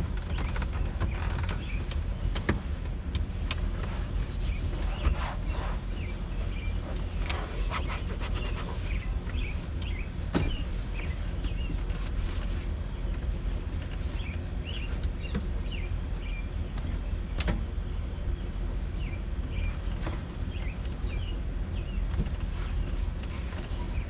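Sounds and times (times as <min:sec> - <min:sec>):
small birds chirping: 0:00.3 - 0:02.5, 0:04.3 - 0:12.2, 0:14.0 - 0:24.0.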